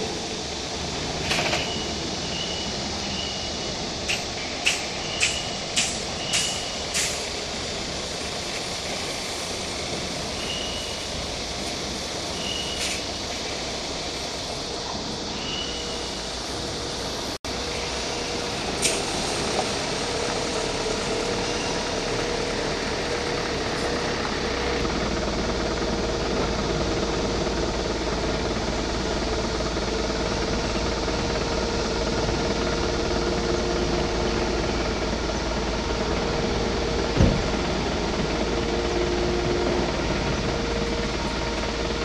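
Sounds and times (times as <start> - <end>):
mechanical drone: 0.0 - 42.0.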